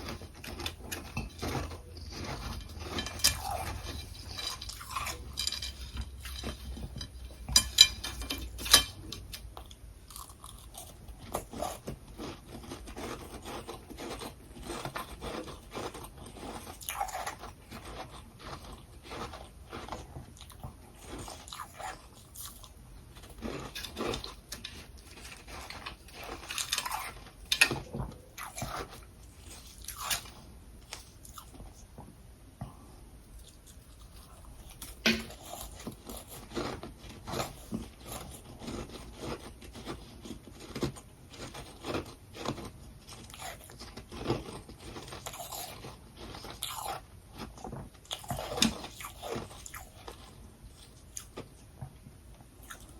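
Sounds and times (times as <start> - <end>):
crunching and chewing ice: 0.0 - 32.0, 33.3 - 52.9.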